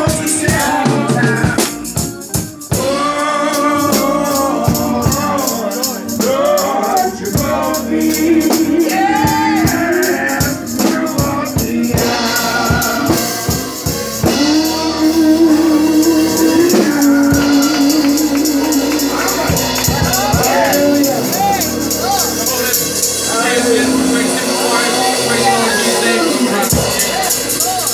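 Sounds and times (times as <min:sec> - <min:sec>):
choir singing: 0:00.0 - 0:27.9
gospel singing through a microphone: 0:00.0 - 0:27.9
shaken percussion beat: 0:00.0 - 0:27.9.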